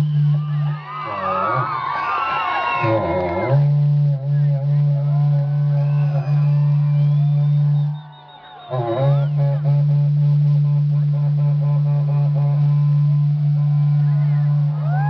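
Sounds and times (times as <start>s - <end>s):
horn trumpet long low note: 0.0s - 2.0s, 2.7s - 15.0s.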